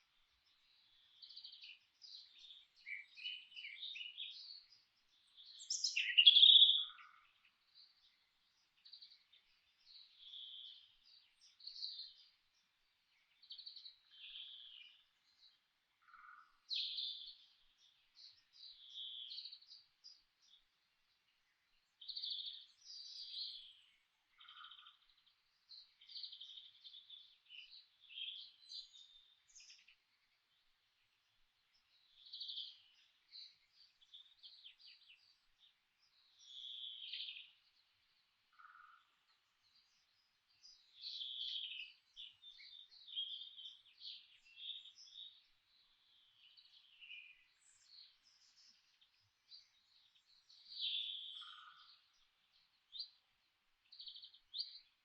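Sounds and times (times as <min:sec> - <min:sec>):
birds twittering: 0:00.0 - 0:12.4, 0:13.1 - 0:20.6, 0:21.4 - 0:55.0.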